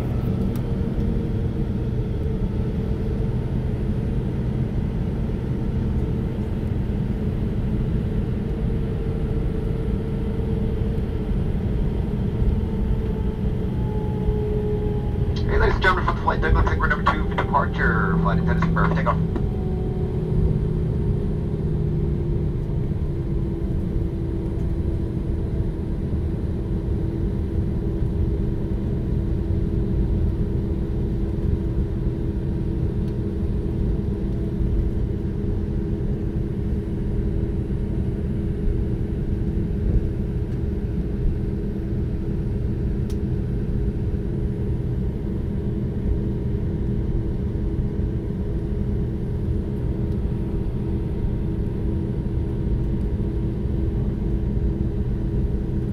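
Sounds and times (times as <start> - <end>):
jet engines idling rumble: 0.0 - 55.9.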